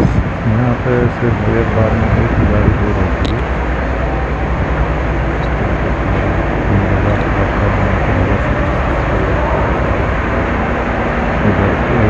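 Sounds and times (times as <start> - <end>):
loud machinery running: 0.0 - 12.0.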